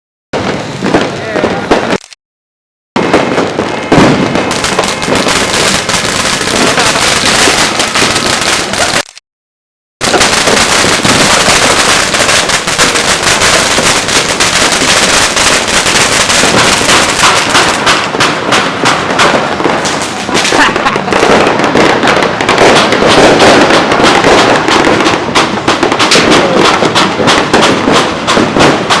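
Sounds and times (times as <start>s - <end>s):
fireworks crackling and popping: 0.4s - 2.2s, 3.0s - 9.2s, 10.0s - 29.0s.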